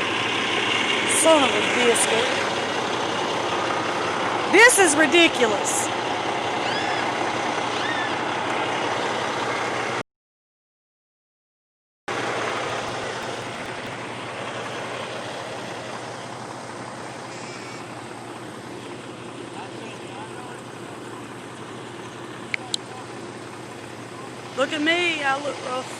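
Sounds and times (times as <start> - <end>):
truck engine running: 0.0 - 10.0, 12.1 - 25.9.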